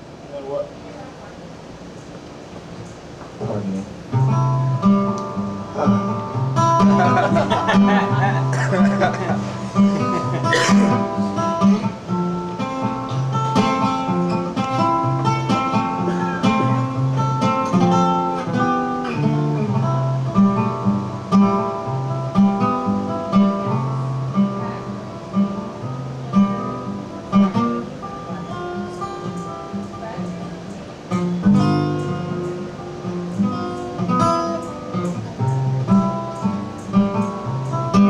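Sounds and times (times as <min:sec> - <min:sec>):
acoustic guitar playing: 0:00.0 - 0:38.0.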